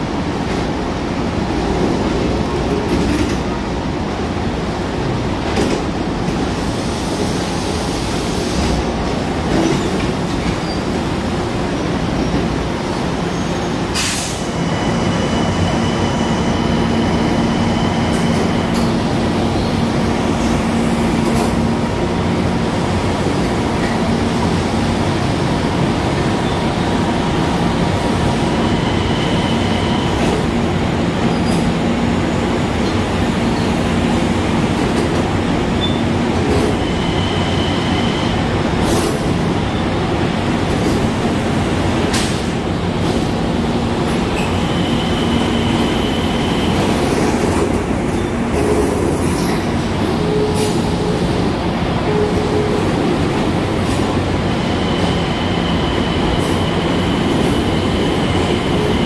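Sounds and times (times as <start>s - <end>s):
train rumbling: 0.0s - 59.0s.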